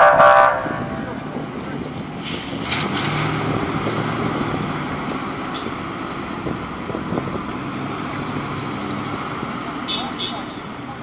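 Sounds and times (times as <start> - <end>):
fire truck engine running: 0.0 - 11.0.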